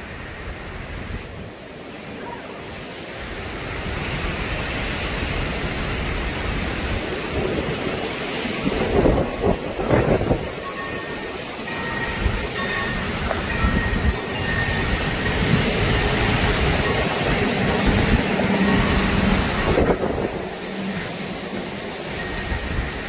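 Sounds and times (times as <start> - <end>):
wind rushing through trees: 0.0 - 23.0.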